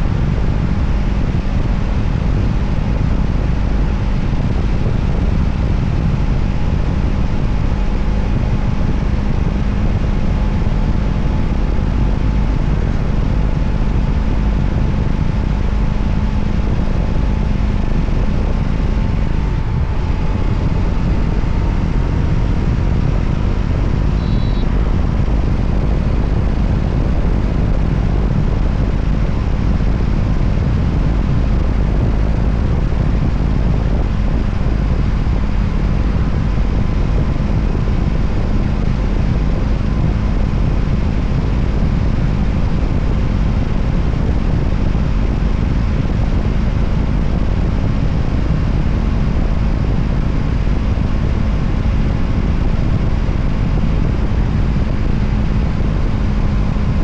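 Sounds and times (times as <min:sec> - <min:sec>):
motorcycle engine cruising: 0:00.0 - 0:53.0
wind and road noise: 0:00.0 - 0:57.0.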